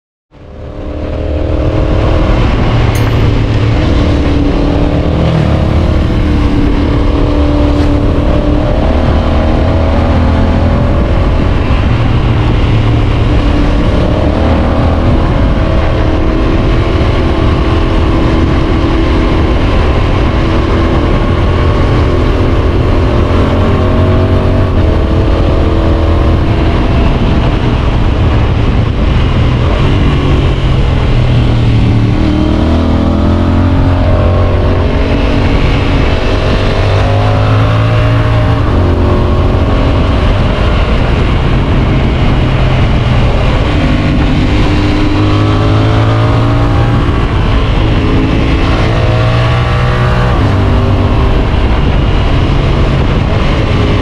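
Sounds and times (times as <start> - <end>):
motorcycle engine revving: 0.4 - 54.0.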